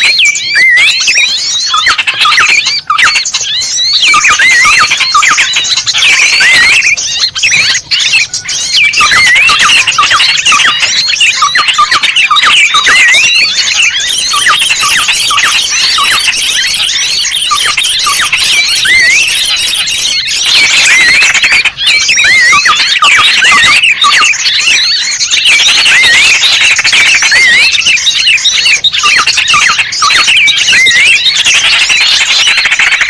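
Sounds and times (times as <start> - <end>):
small birds chirping and twittering: 0.0 - 33.0
whistled bird notes: 0.0 - 33.0.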